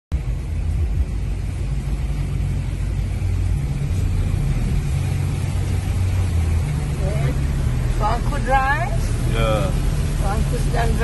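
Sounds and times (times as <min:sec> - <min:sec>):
vehicle engine and road rumble: 0:00.1 - 0:11.0
water washing: 0:00.2 - 0:11.0.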